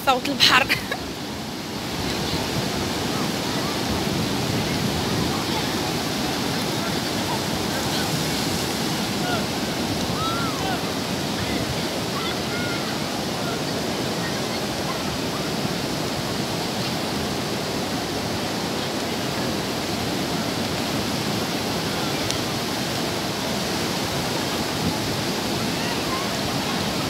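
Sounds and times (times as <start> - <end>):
waves breaking on a beach: 0.0 - 27.0.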